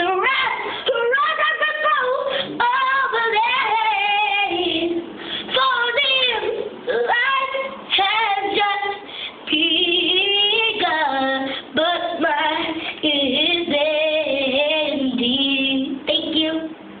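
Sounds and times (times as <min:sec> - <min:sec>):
girl singing with vibrato: 0:00.0 - 0:16.8.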